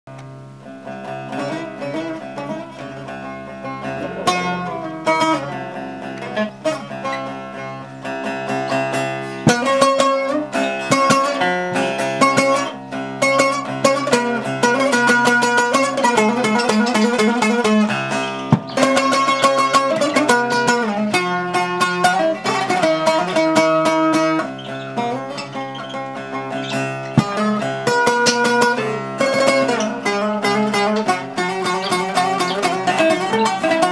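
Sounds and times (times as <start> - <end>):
plucked string instruments melody: 0.1 - 33.9.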